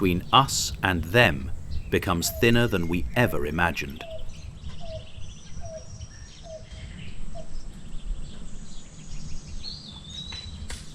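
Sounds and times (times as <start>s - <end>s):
bird whistles and chirps: 1.7s - 10.7s.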